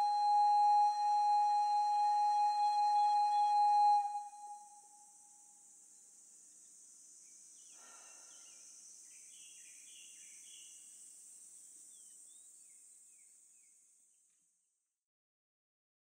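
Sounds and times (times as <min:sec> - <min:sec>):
steady high hiss: 0:00.0 - 0:14.4.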